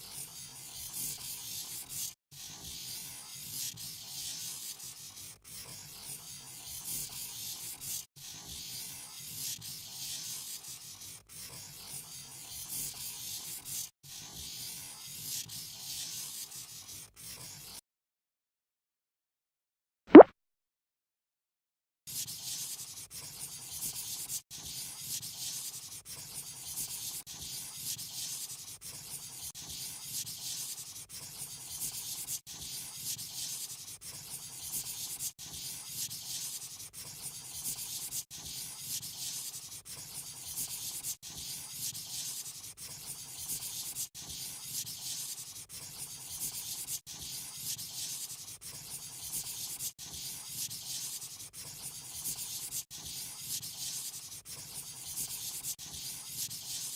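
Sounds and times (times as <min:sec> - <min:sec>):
pen scratching on paper: 0:00.0 - 0:17.8, 0:22.1 - 0:56.9.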